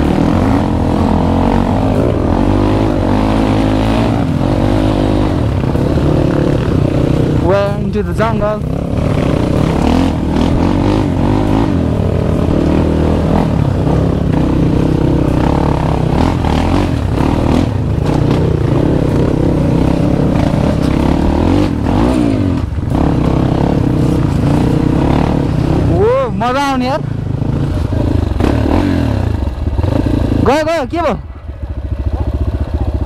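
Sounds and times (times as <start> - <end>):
dirt bike engine revving: 0.0 - 31.2.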